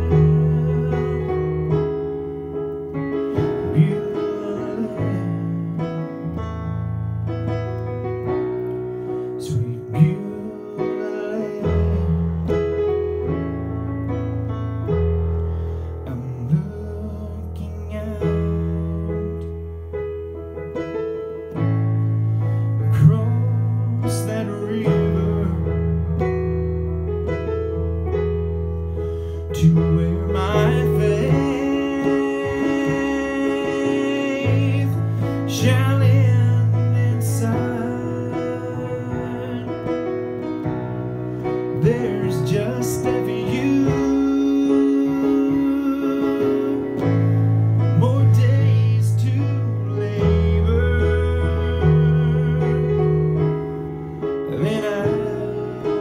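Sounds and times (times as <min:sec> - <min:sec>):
slow piano chords: 0:00.0 - 0:56.0.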